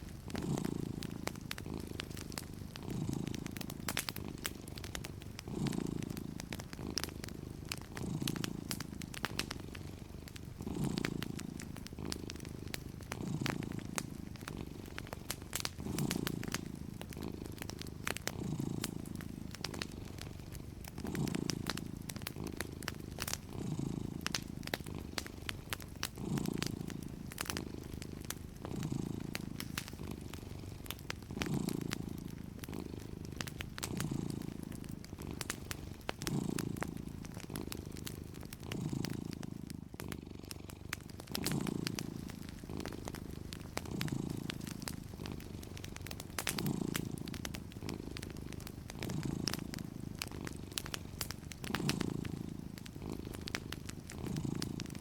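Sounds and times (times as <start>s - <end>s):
cat purring: 0.0s - 55.0s
fireplace crackling: 0.0s - 55.0s.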